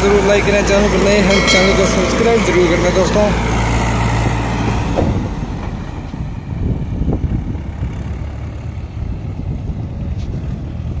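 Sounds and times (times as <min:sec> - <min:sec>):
tractor diesel engine rumbling: 0:00.0 - 0:10.9.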